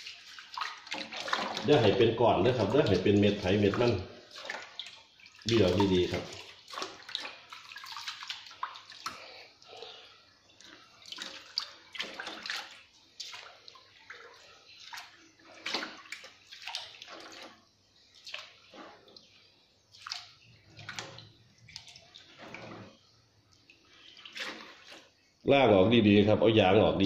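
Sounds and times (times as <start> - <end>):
hands sloshing rice in water: 0.0 - 25.4.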